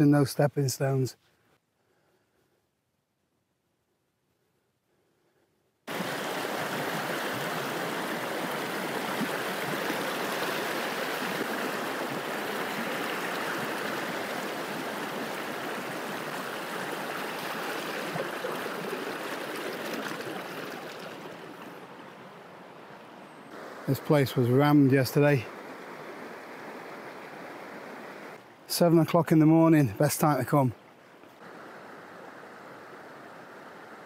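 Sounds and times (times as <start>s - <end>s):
stream water rushing: 5.9s - 34.0s.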